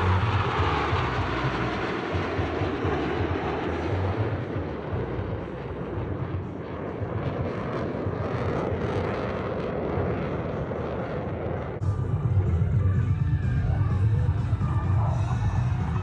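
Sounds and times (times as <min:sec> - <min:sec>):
jets flying past: 0:00.0 - 0:16.0.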